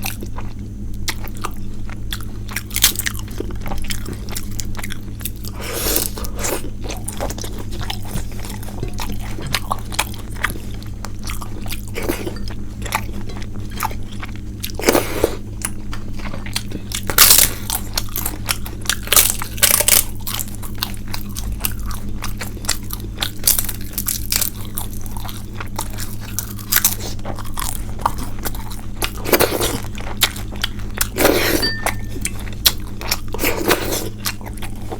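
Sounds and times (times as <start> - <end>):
chewing and mouth sounds: 0.0 - 34.9
steady low hum: 0.0 - 34.9.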